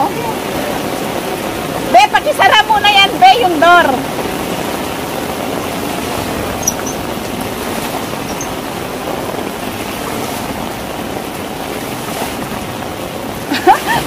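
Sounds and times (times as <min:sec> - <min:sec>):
heavy rain pouring: 0:00.0 - 0:14.0
water running over rooftop: 0:00.0 - 0:14.0.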